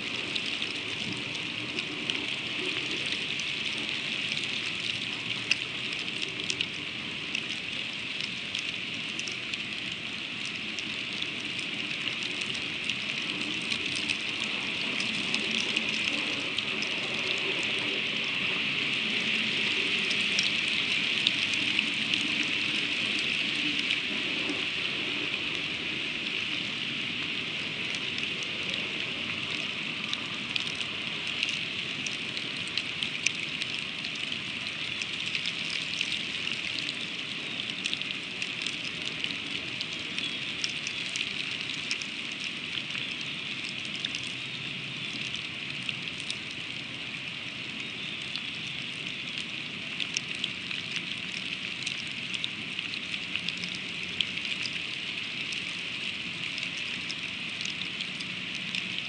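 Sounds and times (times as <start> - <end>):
freezing rain hissing: 0.0 - 59.0.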